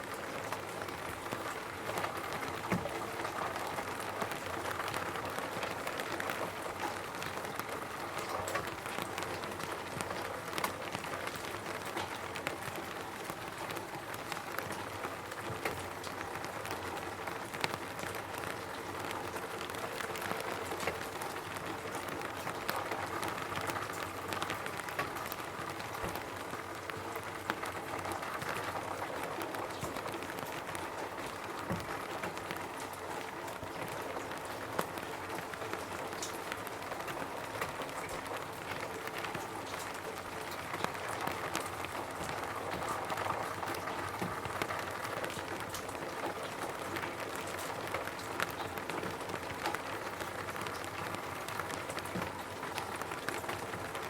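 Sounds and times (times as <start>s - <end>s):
rain pattering on a roof: 0.0s - 54.0s.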